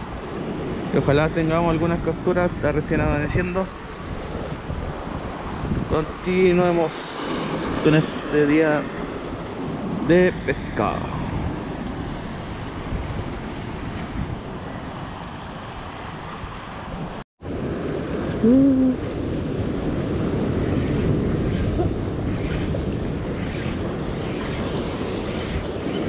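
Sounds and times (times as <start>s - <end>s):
surf washing over rocks: 0.0s - 26.0s
wind buffeting microphone: 0.0s - 26.0s.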